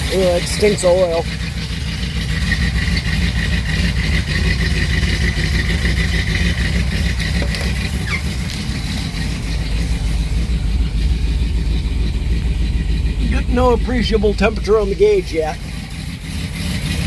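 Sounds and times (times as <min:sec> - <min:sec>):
car engine idling: 0:00.0 - 0:17.0
power steering pump whine: 0:00.0 - 0:17.0.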